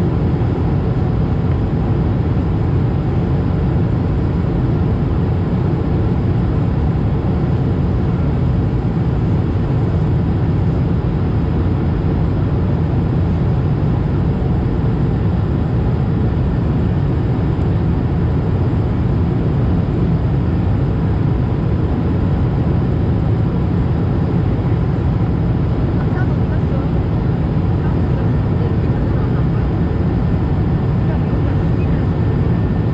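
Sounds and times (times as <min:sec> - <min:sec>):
airplane cabin engine rumble: 0:00.0 - 0:32.9.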